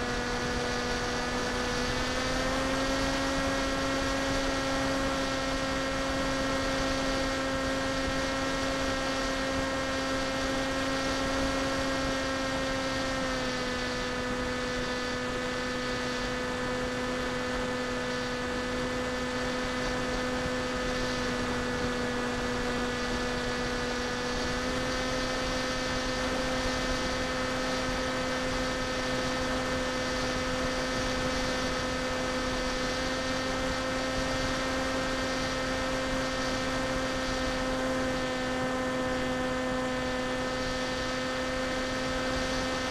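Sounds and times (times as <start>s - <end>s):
electric motor and propeller whine: 0.0s - 42.9s.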